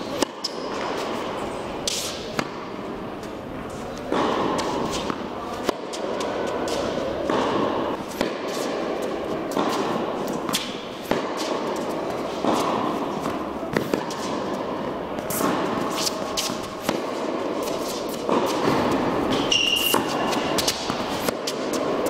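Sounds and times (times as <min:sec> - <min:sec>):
racket striking tennis ball: 0:00.0 - 0:03.4, 0:04.0 - 0:22.0
tennis ball bouncing: 0:00.0 - 0:03.4, 0:04.0 - 0:22.0
steady background hum: 0:00.0 - 0:22.0.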